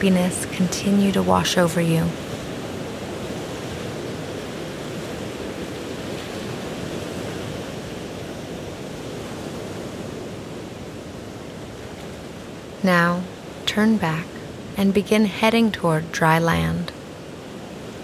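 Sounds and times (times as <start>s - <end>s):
waves washing on shore: 0.0s - 18.0s.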